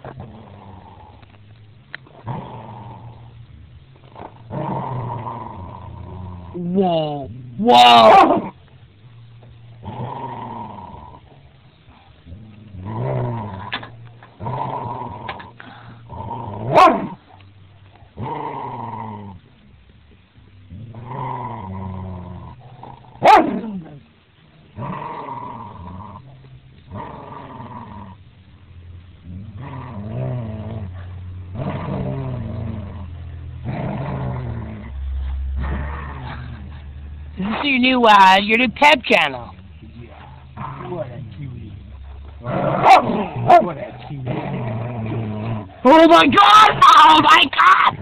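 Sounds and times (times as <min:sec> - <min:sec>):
dog growling: 0:00.0 - 0:01.4, 0:02.0 - 0:08.6, 0:09.8 - 0:17.4, 0:18.2 - 0:19.6, 0:20.6 - 0:24.1, 0:24.7 - 0:28.3, 0:29.2 - 0:37.7, 0:39.1 - 0:46.3.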